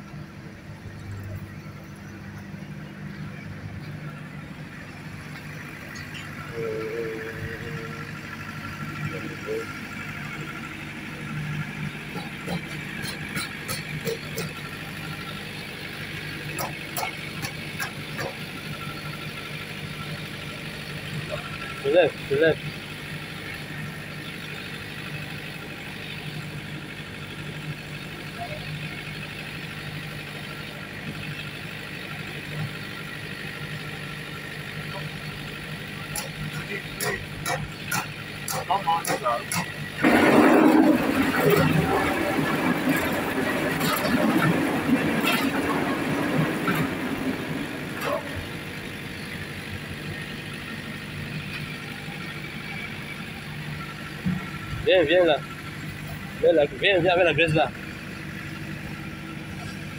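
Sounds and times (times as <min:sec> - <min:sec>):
concrete mixer humming: 0:00.0 - 0:59.9.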